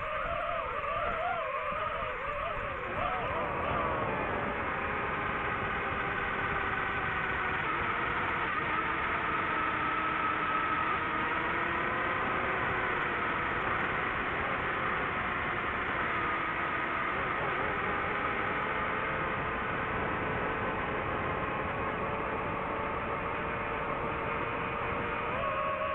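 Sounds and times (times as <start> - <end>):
drone motors whining: 0.0 - 25.9
wind noise: 0.0 - 25.9.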